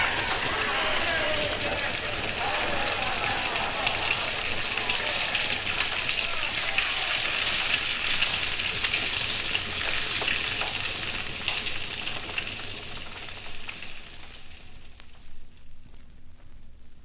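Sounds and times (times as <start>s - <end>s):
fire pops: 0.0s - 17.0s
flames crackling and hissing: 0.0s - 17.0s.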